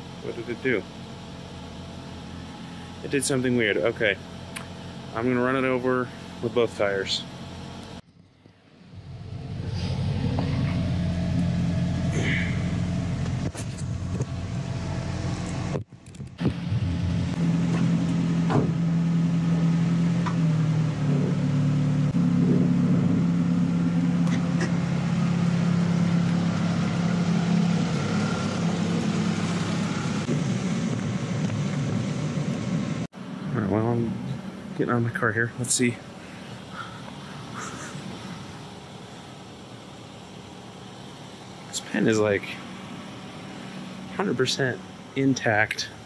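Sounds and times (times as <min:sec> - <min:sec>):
small car engine running: 0:00.0 - 0:46.0.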